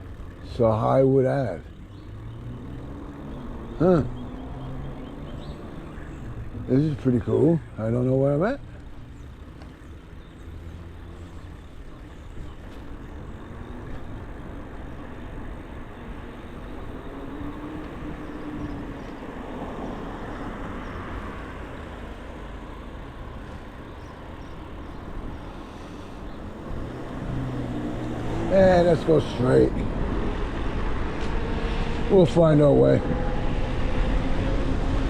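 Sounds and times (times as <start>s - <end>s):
road and wind noise: 0.0s - 35.0s
street traffic: 0.0s - 35.0s.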